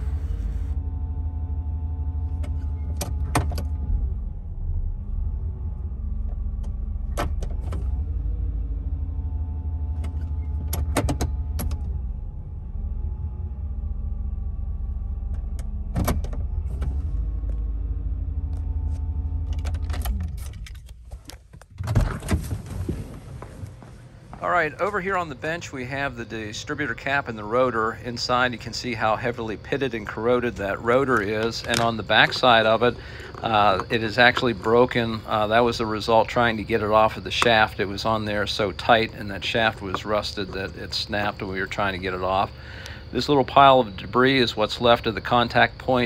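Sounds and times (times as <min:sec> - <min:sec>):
car engine idling: 0:00.0 - 0:22.5, 0:23.8 - 0:46.0.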